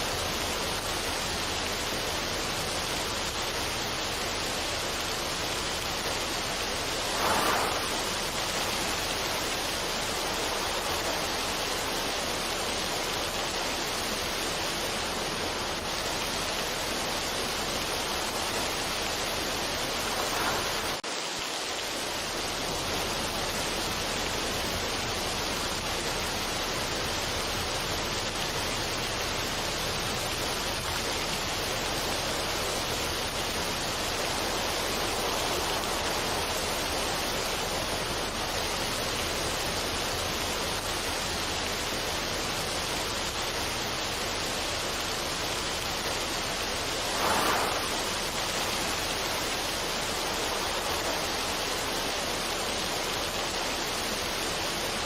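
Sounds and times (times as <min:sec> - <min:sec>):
steady rushing water noise: 0:00.0 - 0:55.0.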